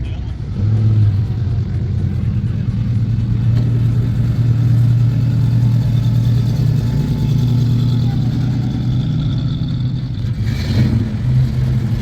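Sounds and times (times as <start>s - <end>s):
car engine humming: 0.2s - 12.0s.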